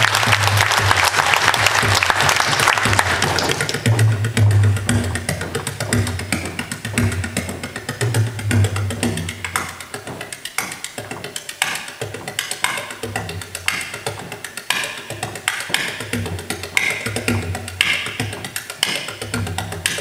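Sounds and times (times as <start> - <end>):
frame drum rapid strokes: 0.0 - 20.0.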